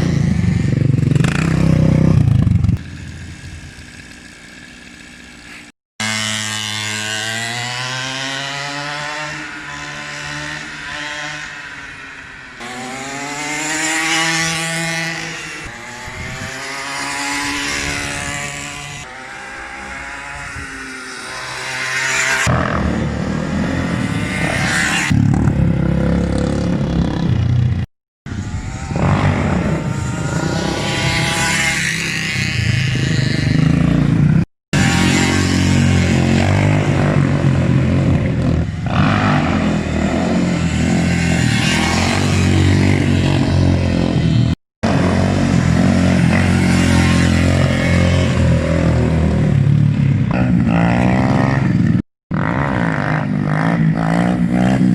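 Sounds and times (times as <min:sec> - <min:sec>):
motorcycle and quad engines revving: 0:00.0 - 0:54.9.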